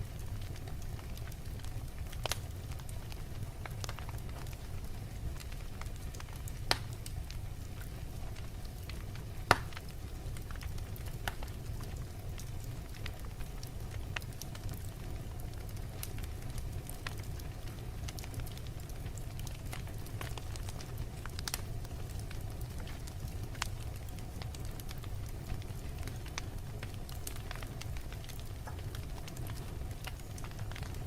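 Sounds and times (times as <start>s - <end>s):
fire crackling: 0.0s - 31.0s
low rumble of flames: 0.0s - 31.0s
loud fire pops: 0.2s - 31.0s.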